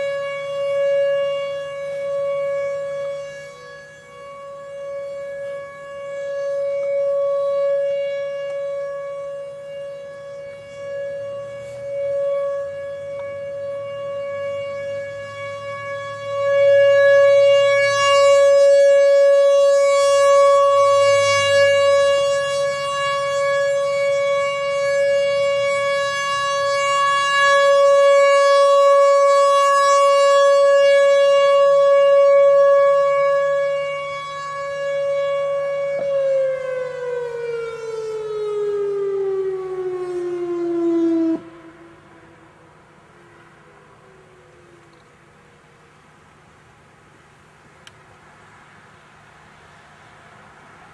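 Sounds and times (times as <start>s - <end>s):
warning siren steady tone: 0.0s - 50.9s.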